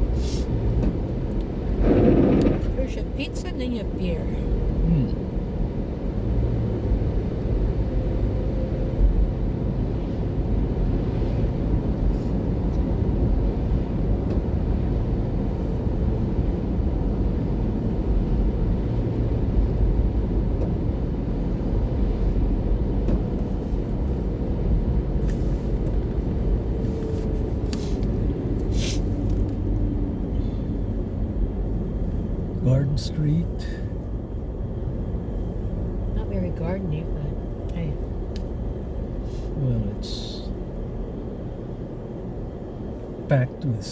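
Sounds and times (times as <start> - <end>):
car engine and tyres rumble: 0.0 - 43.9.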